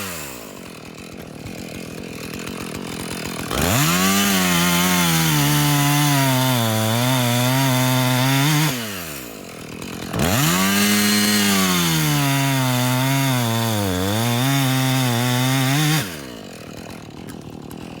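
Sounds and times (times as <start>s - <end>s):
chainsaw cutting wood: 0.0s - 18.0s
chainsaw idling: 0.0s - 18.0s.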